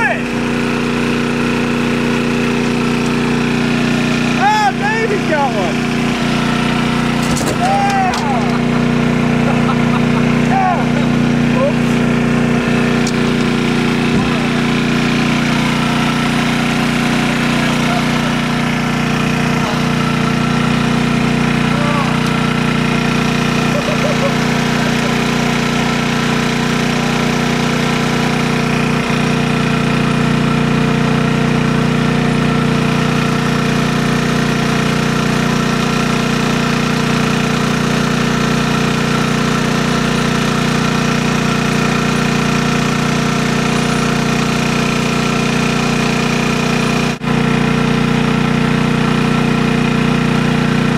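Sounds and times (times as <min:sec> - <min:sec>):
small boat engine idling: 0:00.0 - 0:50.9.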